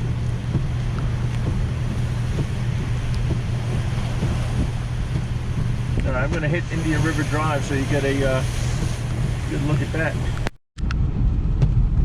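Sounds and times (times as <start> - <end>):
strong storm wind rumbling: 0.0 - 12.0
wind noise on microphone: 0.0 - 12.0.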